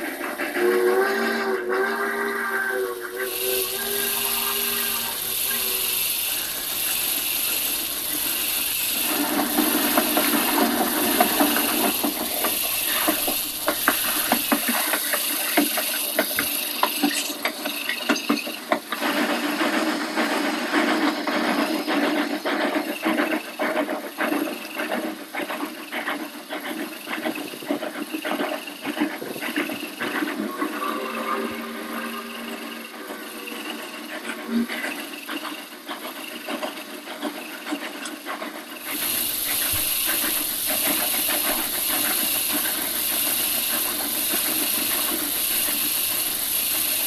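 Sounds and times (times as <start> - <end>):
model train running on track: 0.0 - 47.0
wheels clicking: 0.0 - 47.0.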